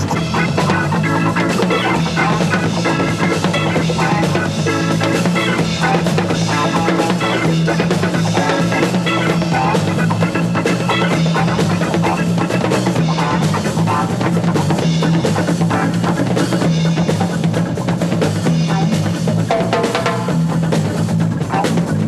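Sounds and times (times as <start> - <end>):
drum kit: 0.0 - 22.0
repeating bass line: 0.0 - 22.0
rock band playing live: 0.0 - 22.0.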